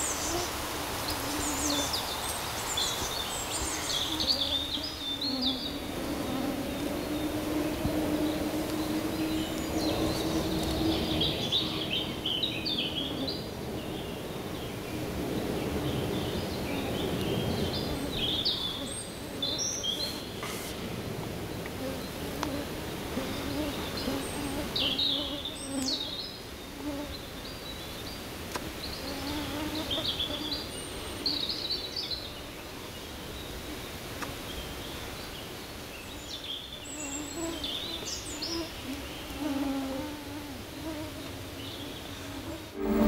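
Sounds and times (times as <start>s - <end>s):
insects buzzing: 0.0s - 13.8s, 15.2s - 27.4s, 28.0s - 32.8s, 35.5s - 43.0s
small birds chirping: 1.1s - 20.9s, 21.6s - 40.1s.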